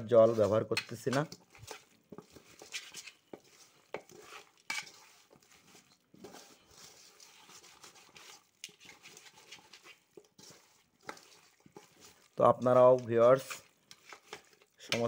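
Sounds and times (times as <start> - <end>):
hands kneading meat: 0.0 - 15.0
meat scraping metal pot: 0.0 - 15.0.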